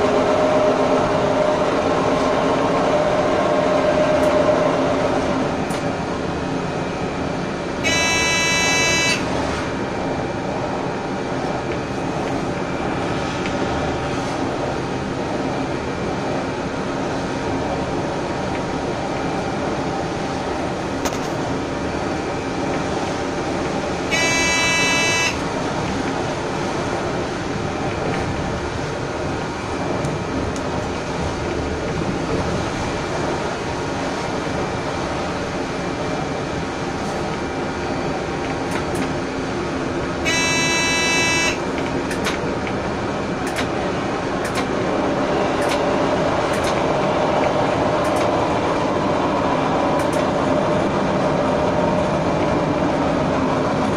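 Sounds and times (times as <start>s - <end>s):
train running on track: 0.0s - 53.9s.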